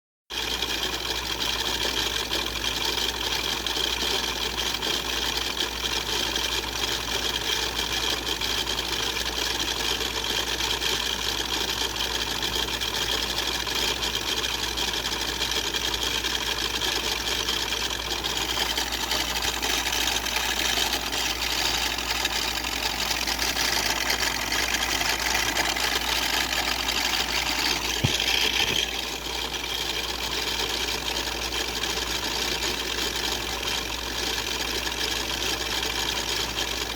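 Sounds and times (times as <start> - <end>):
toy car whirring with high whine: 0.3 - 36.9.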